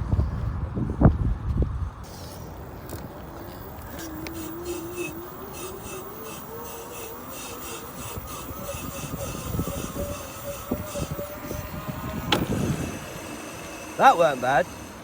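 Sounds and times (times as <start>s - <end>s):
bike whine: 0.0s - 15.0s.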